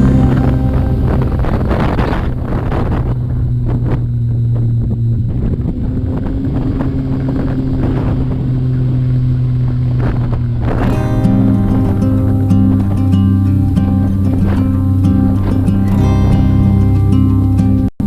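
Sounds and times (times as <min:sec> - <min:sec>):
engine running at steady revs: 0:00.0 - 0:16.2.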